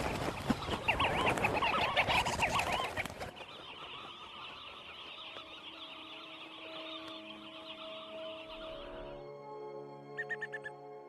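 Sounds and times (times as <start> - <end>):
flock of birds chirping: 0.0 - 10.9.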